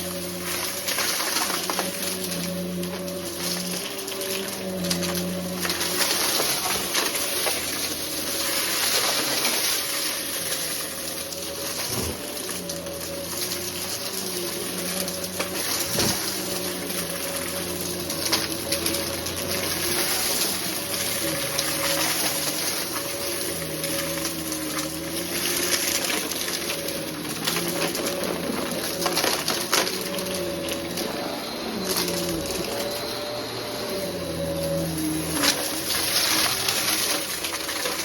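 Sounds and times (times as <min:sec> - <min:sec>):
debris crackling in vacuum: 0:00.0 - 0:38.0
vacuum cleaner running: 0:00.0 - 0:38.0.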